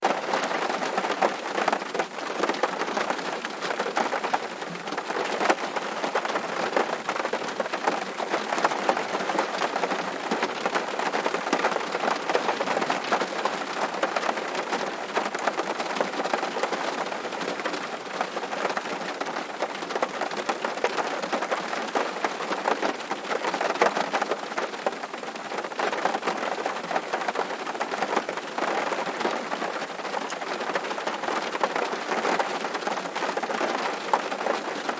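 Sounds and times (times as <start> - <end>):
rain on a tin roof: 0.0 - 34.9.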